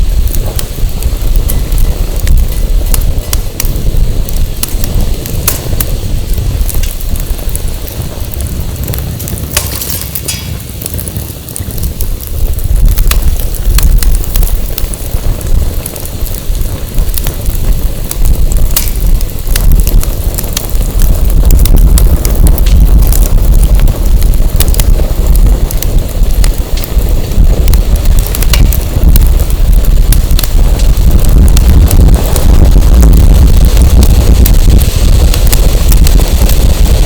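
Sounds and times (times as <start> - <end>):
firewood crackling and popping: 0.0 - 37.0
wind buffeting microphone: 0.0 - 37.0.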